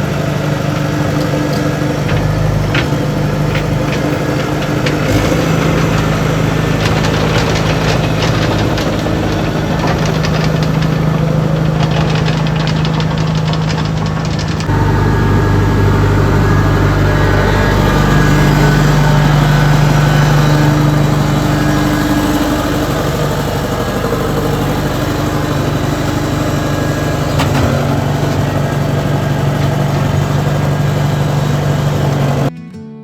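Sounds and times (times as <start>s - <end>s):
engine running: 0.0s - 32.5s.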